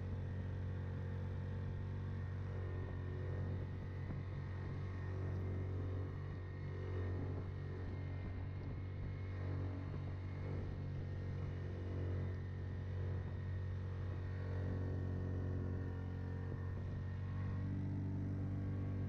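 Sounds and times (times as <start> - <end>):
tracked atv engine droning: 0.0 - 19.0.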